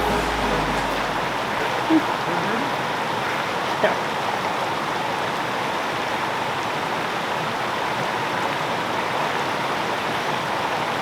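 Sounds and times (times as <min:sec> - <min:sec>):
creek water rushing: 0:00.0 - 0:09.3.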